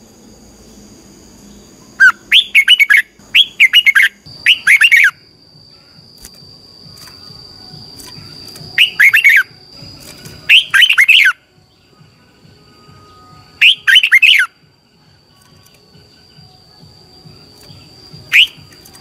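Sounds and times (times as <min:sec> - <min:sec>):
bird singing warbled phrases: 0:01.4 - 0:05.2, 0:07.0 - 0:19.0.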